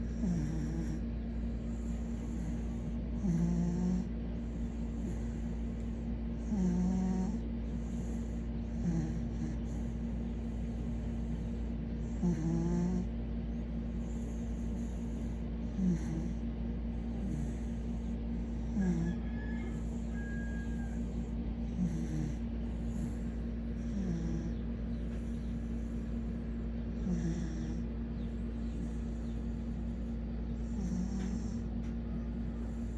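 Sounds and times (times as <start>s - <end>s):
dog snoring: 0.0s - 32.9s
steady low hum: 0.0s - 32.9s.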